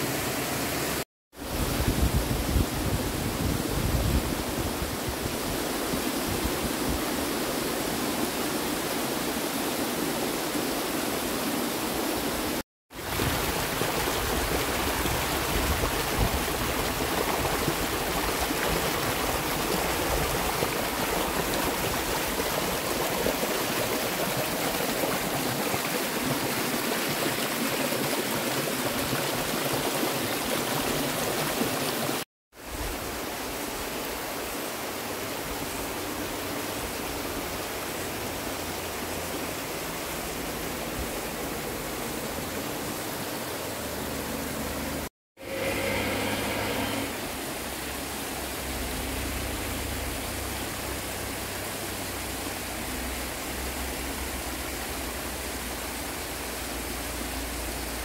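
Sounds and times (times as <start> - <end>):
waterfall rushing: 4.5 - 58.0.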